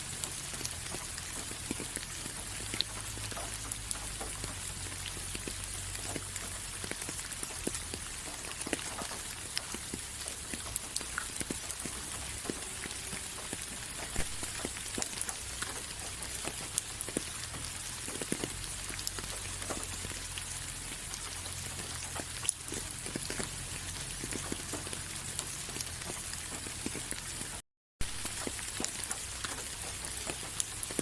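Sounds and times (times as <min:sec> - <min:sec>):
rain hissing: 0:00.0 - 0:31.0
raindrops ticking on a surface: 0:00.0 - 0:31.0.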